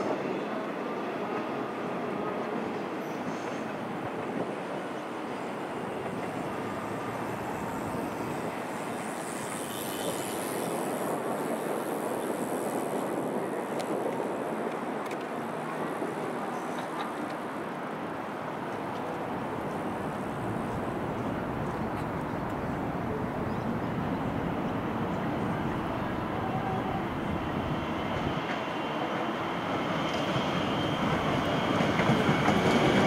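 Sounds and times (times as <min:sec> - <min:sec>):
train rumbling on tracks: 0:00.0 - 0:33.0.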